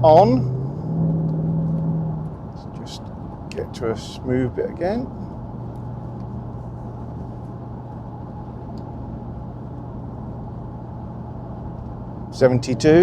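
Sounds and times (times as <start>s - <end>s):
low exhaust drone: 0.0s - 13.0s
road and wind noise: 0.0s - 13.0s.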